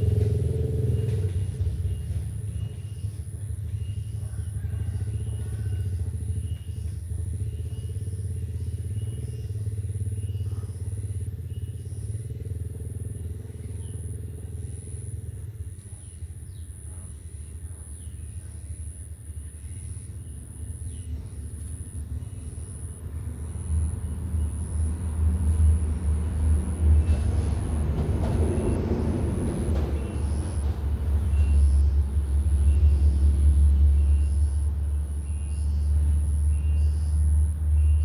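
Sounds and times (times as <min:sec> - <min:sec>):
high-pitched whine: 0:00.0 - 0:28.0, 0:28.6 - 0:38.0
low engine rumble: 0:00.0 - 0:38.0.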